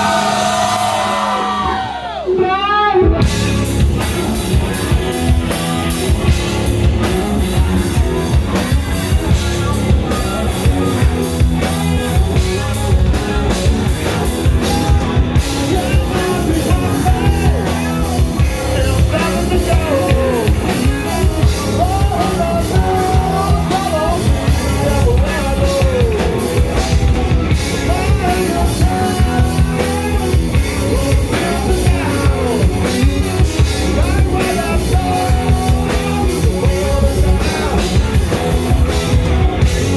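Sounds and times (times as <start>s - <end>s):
drum kit beat: 0.0s - 39.9s
guitars and bass: 0.0s - 39.9s
person singing: 0.0s - 39.9s.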